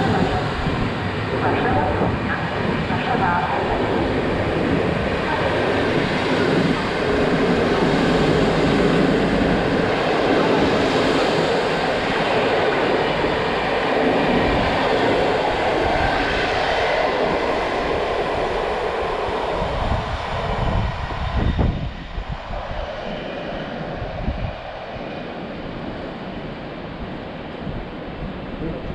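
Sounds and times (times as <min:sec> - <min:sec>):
train rumbling past: 0:00.0 - 0:24.5.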